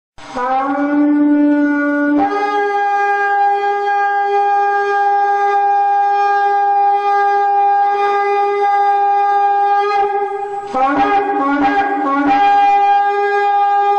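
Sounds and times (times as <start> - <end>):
shofar blast: 0.2 - 13.9.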